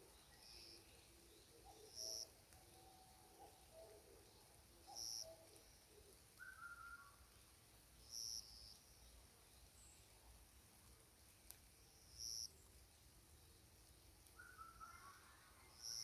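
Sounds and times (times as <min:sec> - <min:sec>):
faint forest birdsong: 0:00.0 - 0:16.0.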